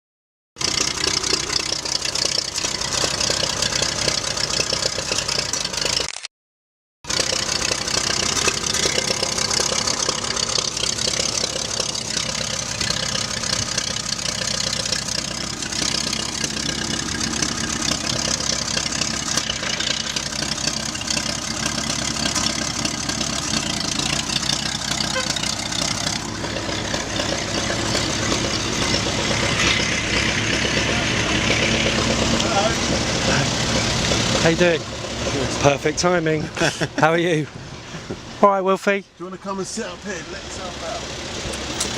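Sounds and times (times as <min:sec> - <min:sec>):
tractor engine running: 0:00.6 - 0:06.2, 0:07.0 - 0:41.9.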